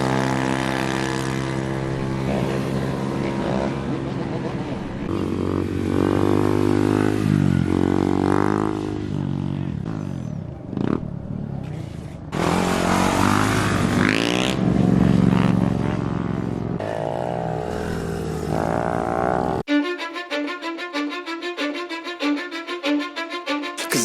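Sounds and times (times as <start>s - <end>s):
motorbike engines revving: 0.0s - 19.6s.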